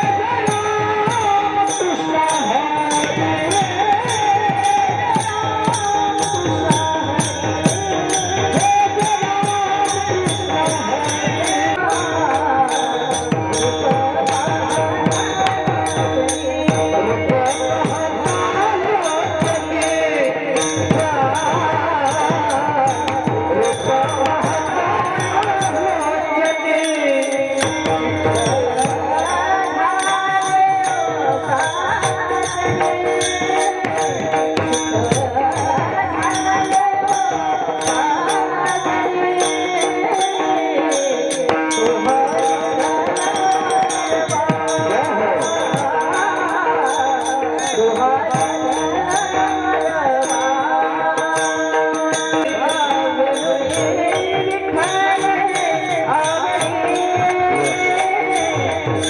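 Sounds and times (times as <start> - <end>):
hand cymbals striking: 0.0 - 59.0
held accompanying tones: 0.0 - 59.0
person singing: 0.0 - 59.0.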